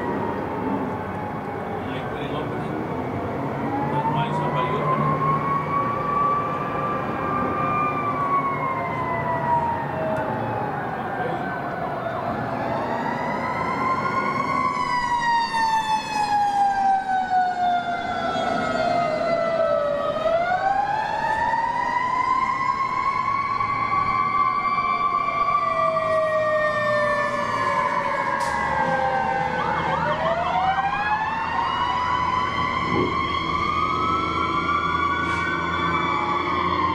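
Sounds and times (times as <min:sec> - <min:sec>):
city background noise: 0:00.0 - 0:36.9
emergency siren wailing: 0:00.0 - 0:36.9.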